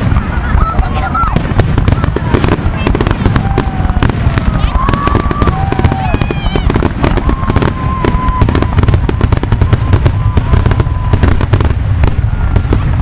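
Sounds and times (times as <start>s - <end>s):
fireworks bangs and crackles: 0.0s - 13.0s
fireworks whistle: 0.0s - 13.0s.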